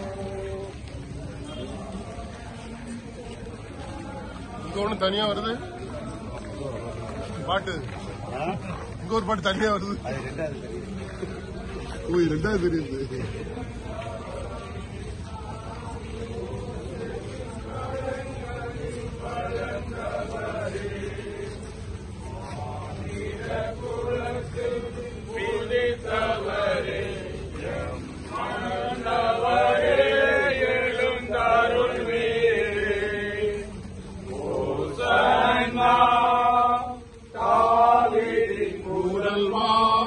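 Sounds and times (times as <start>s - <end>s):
group chanting a hymn: 0.0s - 9.0s, 9.6s - 40.0s.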